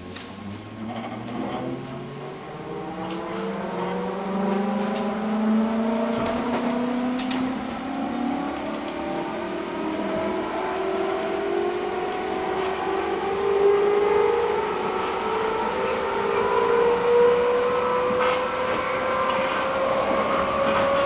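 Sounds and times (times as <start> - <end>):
train rolling noise: 0.0 - 21.0
train motors whining: 0.2 - 21.0.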